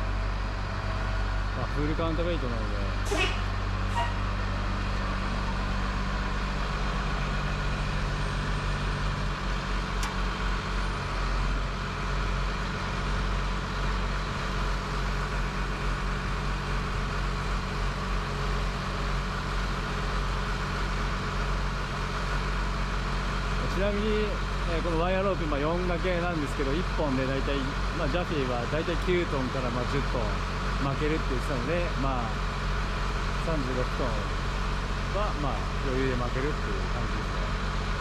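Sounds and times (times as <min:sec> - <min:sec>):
crane diesel engine running: 0:00.0 - 0:38.0.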